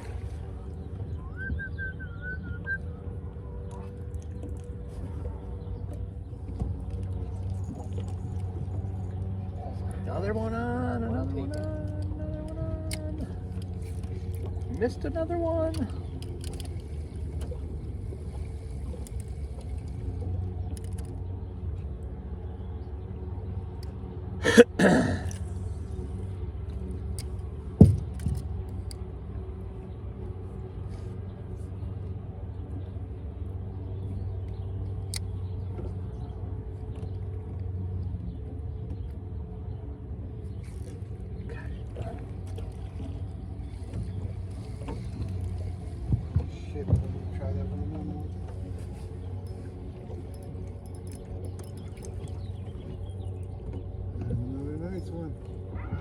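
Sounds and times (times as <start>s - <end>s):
low motor rumble: 0.0s - 56.0s.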